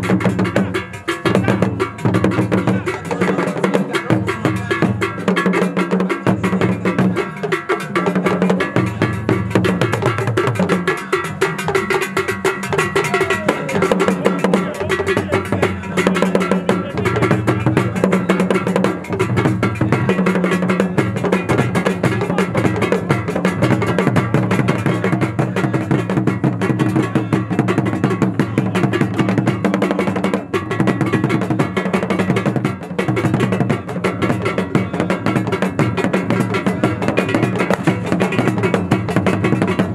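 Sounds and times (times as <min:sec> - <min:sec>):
drum percussion music: 0:00.0 - 0:39.9.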